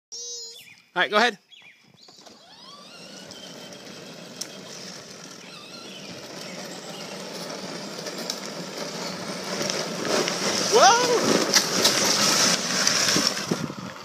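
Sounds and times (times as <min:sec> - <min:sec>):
ride-on tractor driving: 0:02.0 - 0:14.0.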